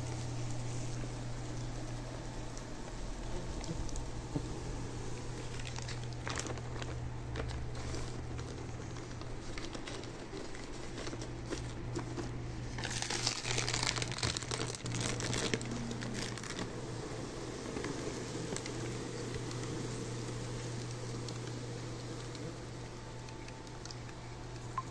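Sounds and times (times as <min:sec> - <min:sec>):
plastic film crinkling: 0:00.0 - 0:24.9
steady low hum: 0:00.0 - 0:24.9.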